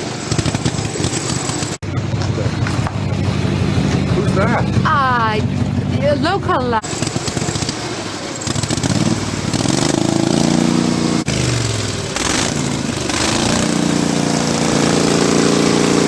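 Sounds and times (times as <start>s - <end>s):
lawn mower engine revving: 0.0s - 16.0s.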